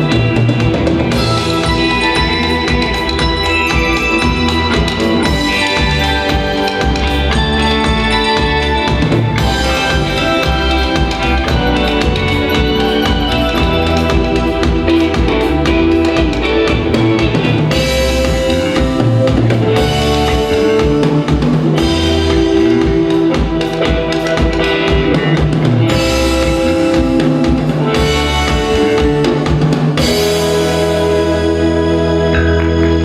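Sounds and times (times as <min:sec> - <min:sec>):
drum kit: 0:00.0 - 0:33.0
rock band playing: 0:00.0 - 0:33.0.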